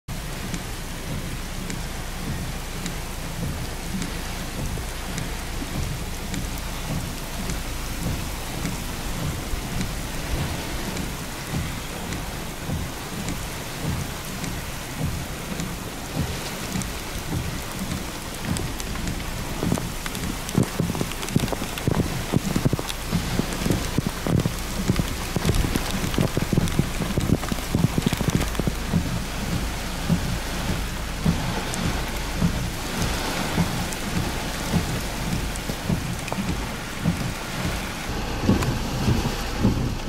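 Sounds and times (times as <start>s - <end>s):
constant low rumble: 0.0s - 40.0s
drops ticking close by: 0.1s - 40.0s
steady rain falling: 0.1s - 40.0s.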